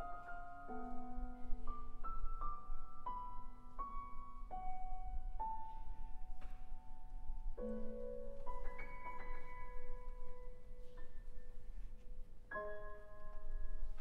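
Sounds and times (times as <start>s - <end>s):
grand piano playing: 0.0s - 14.0s.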